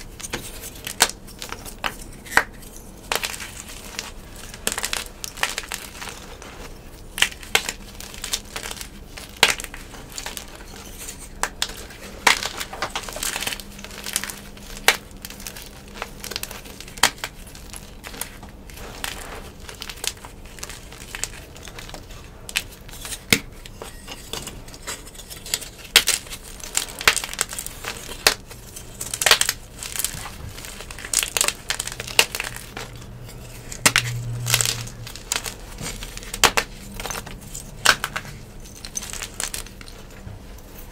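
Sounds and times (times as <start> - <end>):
chalk blocks crunching in hands: 0.0 - 40.9
powdery chalk crumbling: 0.0 - 40.9.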